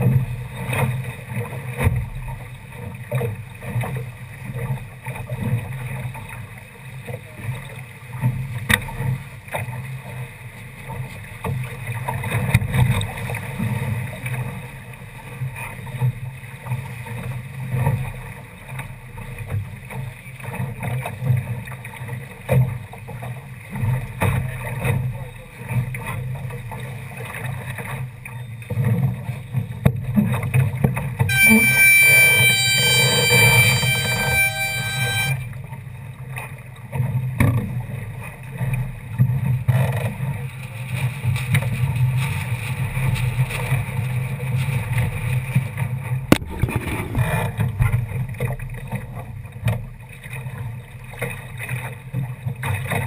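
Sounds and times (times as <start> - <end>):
low rumble of water and wind: 0.0 - 53.0.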